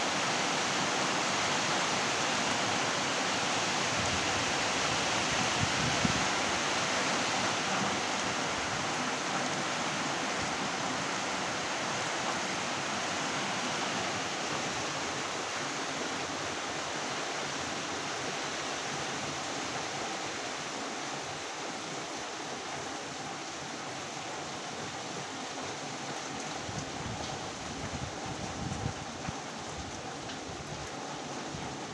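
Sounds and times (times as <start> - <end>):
rain falling: 0.0 - 31.9.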